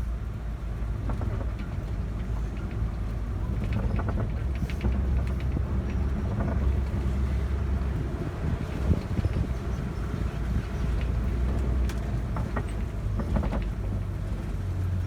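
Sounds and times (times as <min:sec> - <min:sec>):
road rumble: 0:00.0 - 0:15.0
truck engine: 0:00.0 - 0:15.0.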